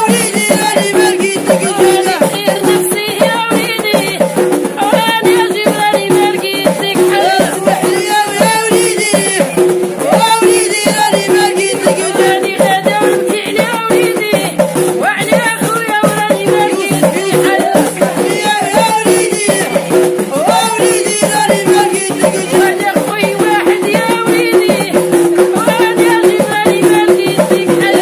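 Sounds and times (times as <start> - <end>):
hand percussion: 0.0 - 28.0
person singing: 0.0 - 28.0
rattling shakers: 0.0 - 28.0.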